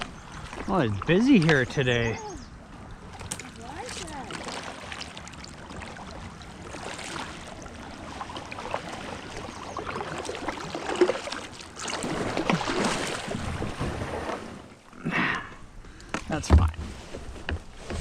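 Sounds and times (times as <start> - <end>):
paddle splashing and dripping: 0.0 - 15.0
water lapping at hull: 0.0 - 18.0.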